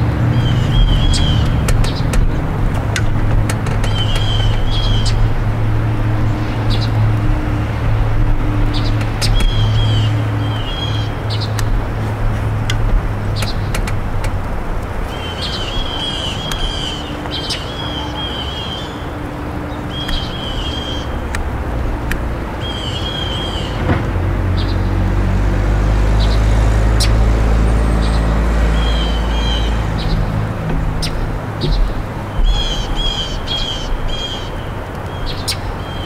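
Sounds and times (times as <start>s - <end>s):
low rumble of road traffic: 0.0s - 36.0s
vehicle passing: 0.0s - 36.0s.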